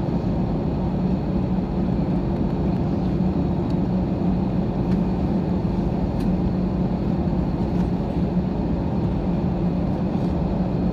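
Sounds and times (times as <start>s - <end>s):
jet engines idling in cabin: 0.0s - 10.9s.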